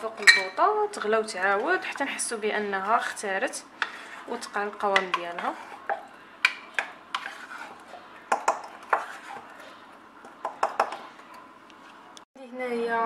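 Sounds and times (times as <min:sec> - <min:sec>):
wooden spatula scraping metal pot: 0:00.0 - 0:12.1.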